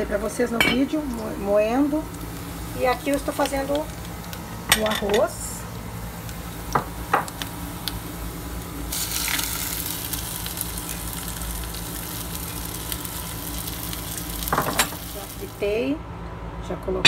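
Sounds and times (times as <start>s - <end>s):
onion sizzling in oil: 0.0s - 15.9s.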